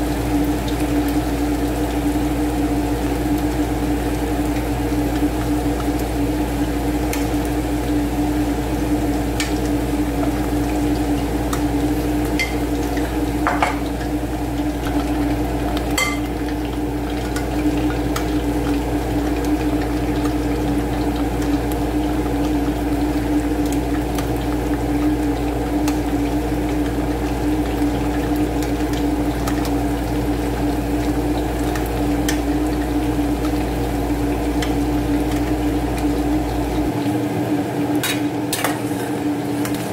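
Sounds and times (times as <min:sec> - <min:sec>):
oil bubbling: 0:00.0 - 0:39.9.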